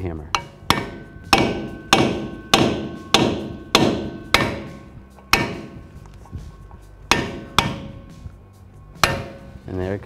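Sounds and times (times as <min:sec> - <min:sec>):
hammer striking metal driver: 0:00.2 - 0:09.8.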